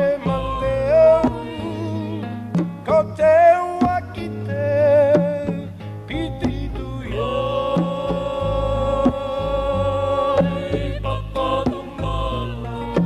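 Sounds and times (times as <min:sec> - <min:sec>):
hand drums: 0:00.0 - 0:04.4, 0:05.0 - 0:13.0
low bass: 0:00.0 - 0:13.0
person singing: 0:00.0 - 0:13.0.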